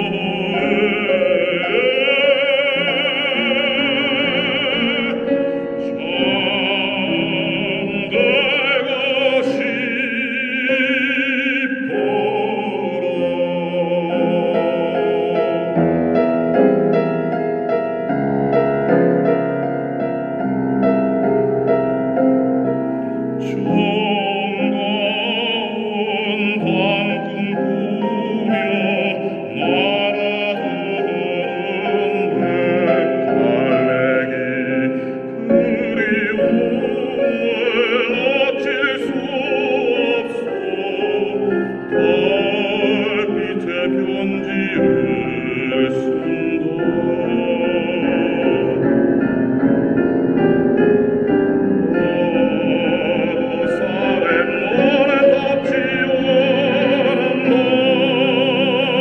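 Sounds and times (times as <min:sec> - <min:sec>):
baritone singing with vibrato: 0:00.0 - 0:20.4, 0:22.9 - 0:59.0.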